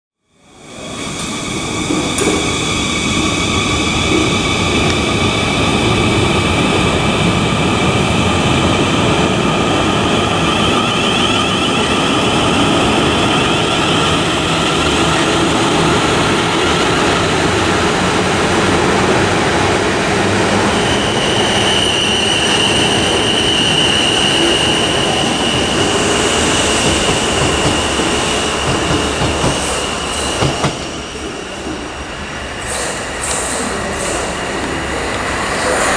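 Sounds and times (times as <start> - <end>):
passing train rumble: 0.4 - 35.9
train wheel squeal: 0.6 - 17.7, 20.1 - 35.9.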